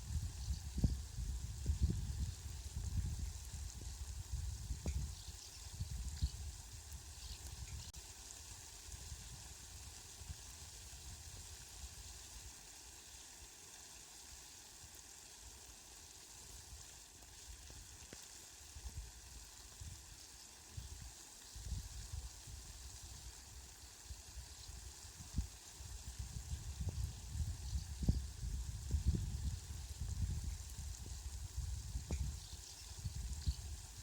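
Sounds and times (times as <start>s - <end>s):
rain hissing: 0.0s - 34.0s.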